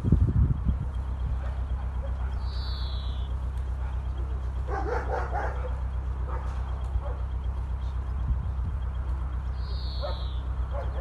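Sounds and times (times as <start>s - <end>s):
boat engine thrumming: 0.0s - 11.0s.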